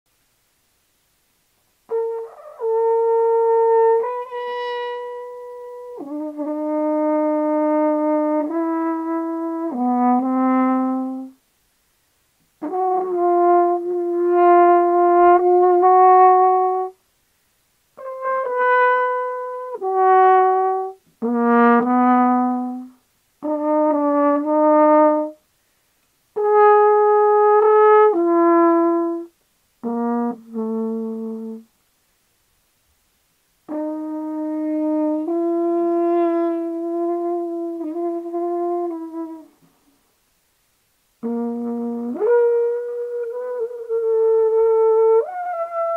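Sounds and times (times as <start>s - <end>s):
slow brass melody: 1.8s - 11.5s, 12.6s - 17.0s, 17.9s - 25.6s, 26.3s - 31.8s, 33.6s - 40.1s, 41.1s - 45.9s.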